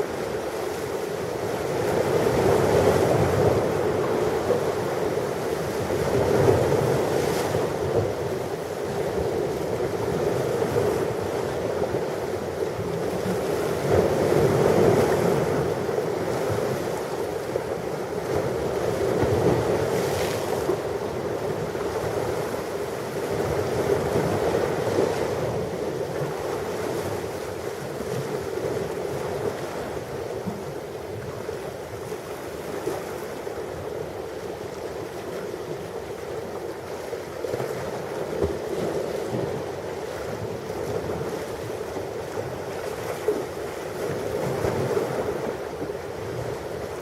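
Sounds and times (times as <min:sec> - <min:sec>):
ocean waves washing onto shore: 0:00.0 - 0:47.0
wind rumble on microphone: 0:00.0 - 0:47.0.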